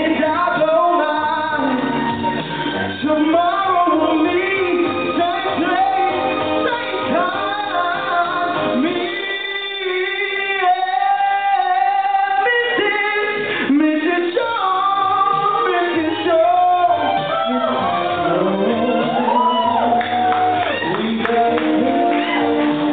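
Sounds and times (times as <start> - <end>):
backing track music: 0.0 - 22.9
man singing into a microphone: 0.0 - 22.9.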